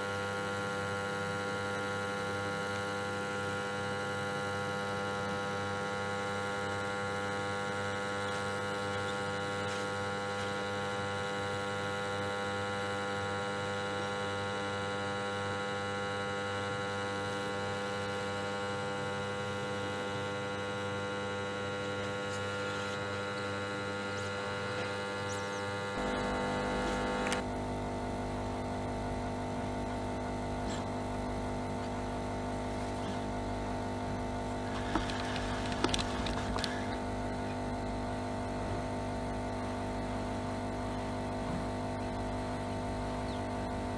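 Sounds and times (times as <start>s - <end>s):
plastic welder electric hum: 0.0s - 43.9s.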